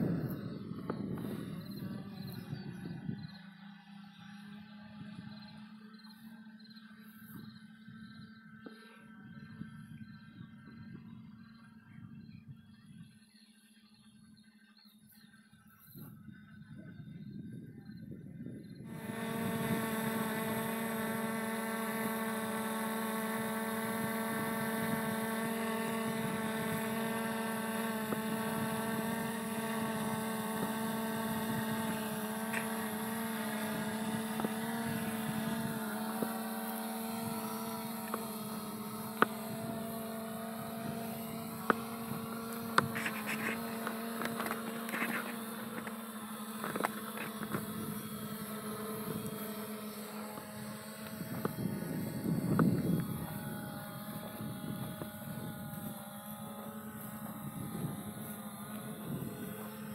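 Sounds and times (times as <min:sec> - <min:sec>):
drone propellers humming: 0:00.0 - 0:59.9.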